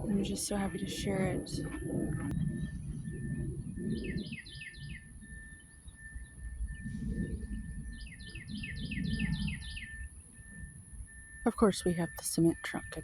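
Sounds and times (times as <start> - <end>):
songbird whistling: 0.2 - 11.5.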